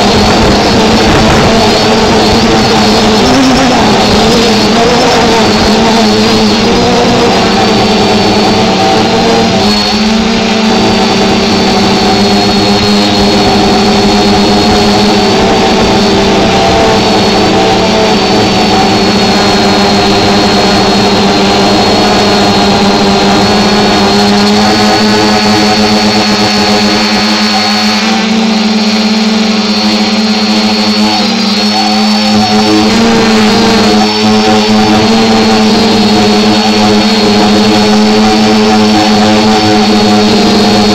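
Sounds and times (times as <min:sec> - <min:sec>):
drone propellers buzzing: 0:00.0 - 0:40.9.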